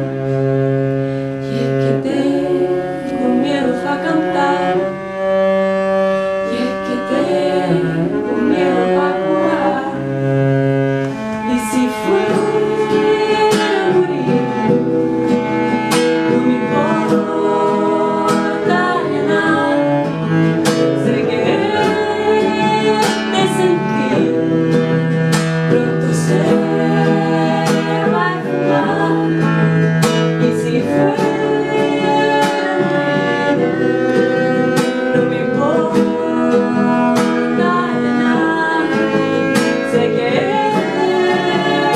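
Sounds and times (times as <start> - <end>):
bowed string long notes: 0.0 - 41.9
plucked strings: 0.0 - 41.9.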